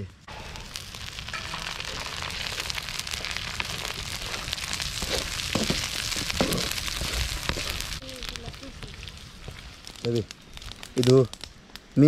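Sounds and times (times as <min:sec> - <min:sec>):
vegetables sizzling in hot oil: 0:00.3 - 0:11.3.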